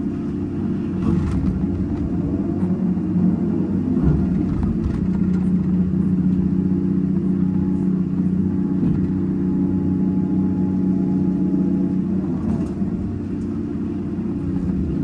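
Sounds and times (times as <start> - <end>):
excavator diesel engine droning: 0.0 - 15.0.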